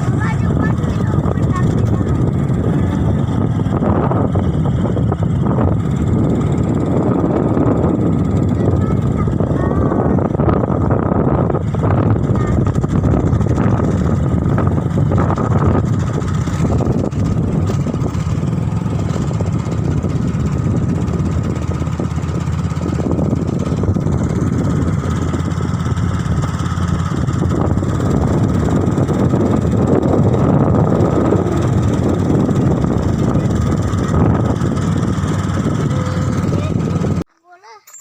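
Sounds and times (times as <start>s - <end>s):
vehicle engine: 0.0s - 37.3s
road noise: 0.0s - 37.5s.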